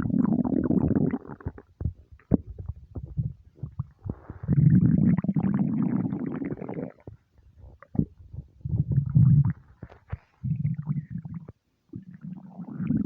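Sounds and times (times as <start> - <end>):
stomach rumbling and gurgling: 0.0 - 13.0.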